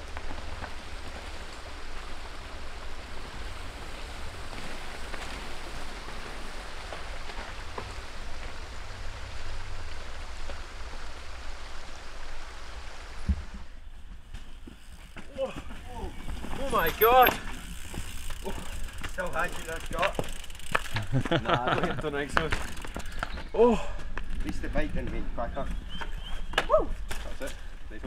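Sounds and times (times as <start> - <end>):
woodland ambient hiss: 0.0 - 28.0.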